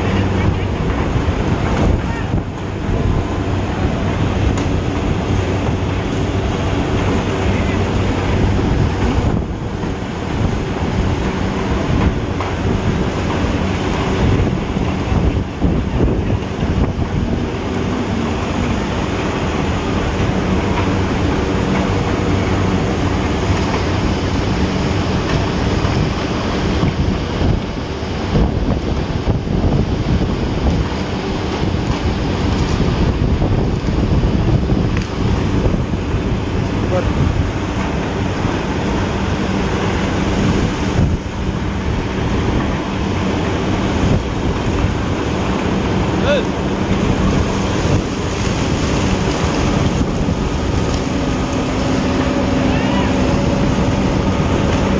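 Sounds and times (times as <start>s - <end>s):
heavy machinery rumbling: 0.0s - 54.9s.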